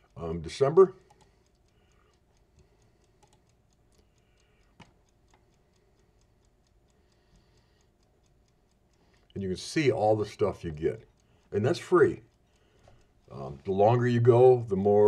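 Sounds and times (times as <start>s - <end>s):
faint rapid ticking: 0.0s - 15.0s
click: 0.8s - 13.7s.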